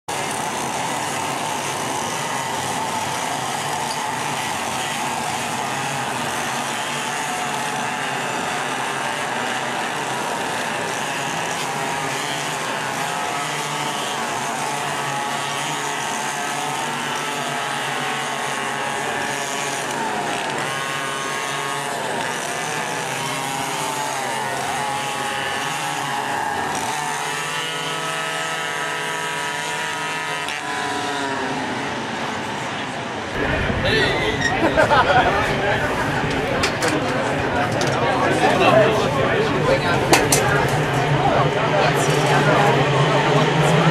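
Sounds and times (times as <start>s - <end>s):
go-kart engines buzzing: 0.0s - 43.9s.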